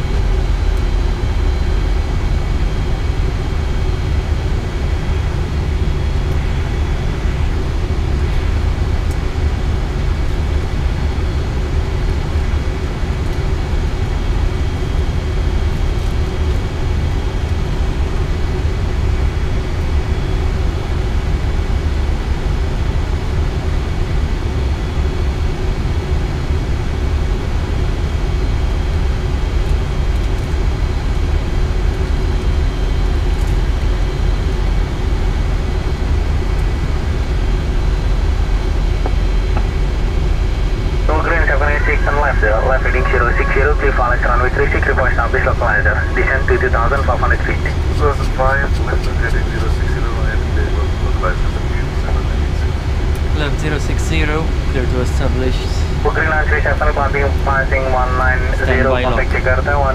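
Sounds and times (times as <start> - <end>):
deep aircraft cockpit rumble: 0.0 - 59.9
faint steady hum: 0.0 - 59.9.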